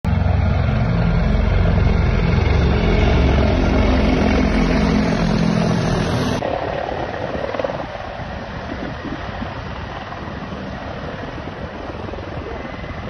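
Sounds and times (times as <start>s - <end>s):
helicopter rotor rumble: 0.0s - 13.0s.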